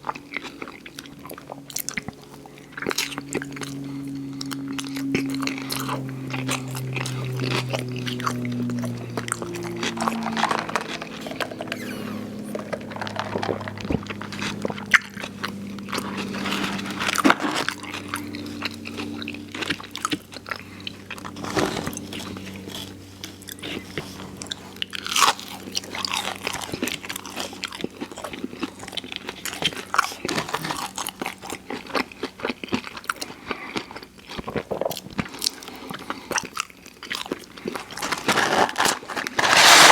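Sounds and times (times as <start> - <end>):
crunchy chewing of fried food: 0.0 - 39.9.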